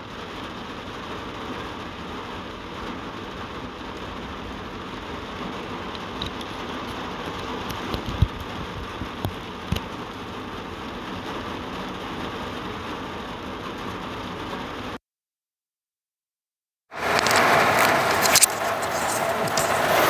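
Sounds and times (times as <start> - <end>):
rain on a vehicle: 0.0 - 15.0, 16.9 - 20.0.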